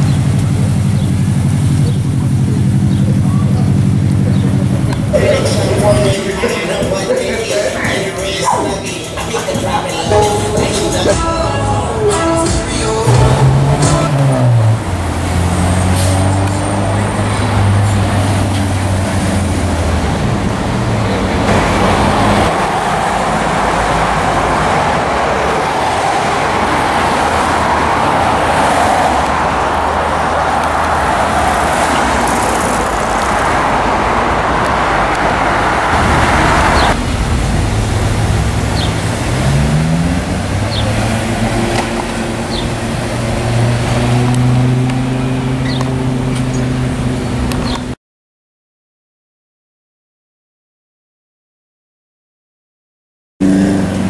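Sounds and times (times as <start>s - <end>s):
cars driving slowly past: 0.0s - 48.0s, 53.4s - 54.0s
loud rushing noise: 3.8s - 47.6s.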